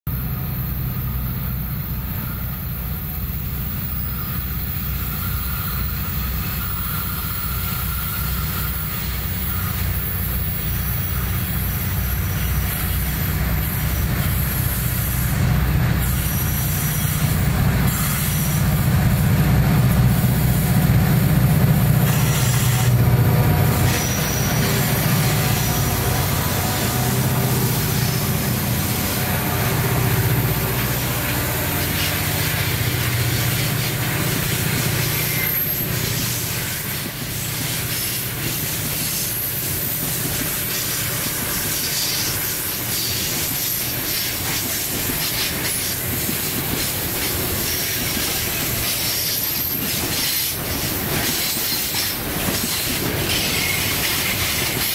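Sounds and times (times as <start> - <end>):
train on the rails: 0.0 - 54.9
locomotive engine drone: 0.1 - 54.9.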